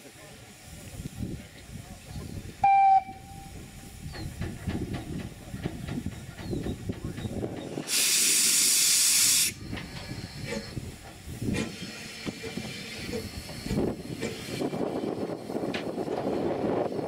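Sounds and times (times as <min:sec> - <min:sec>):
steam hissing: 0:00.0 - 0:17.0.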